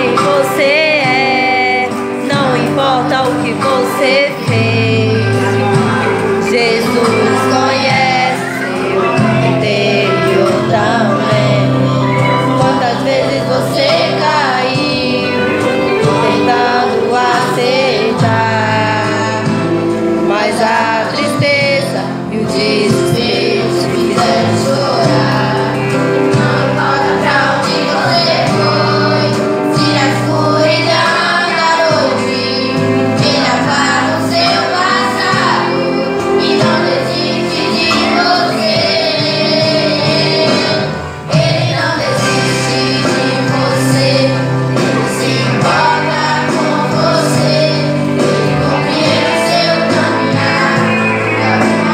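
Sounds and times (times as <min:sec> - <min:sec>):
children singing into microphones: 0:00.0 - 0:51.9
instrumental accompaniment: 0:00.0 - 0:51.9.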